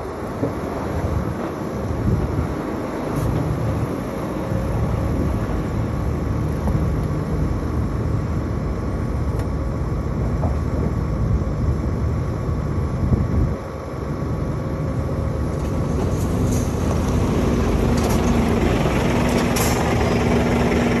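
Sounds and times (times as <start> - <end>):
bulldozer diesel engine running: 0.0 - 21.0
truck diesel engine: 0.0 - 21.0.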